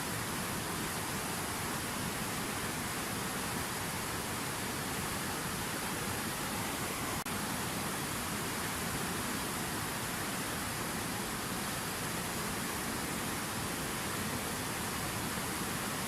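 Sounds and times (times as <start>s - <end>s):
fountain water rushing: 0.0s - 16.0s.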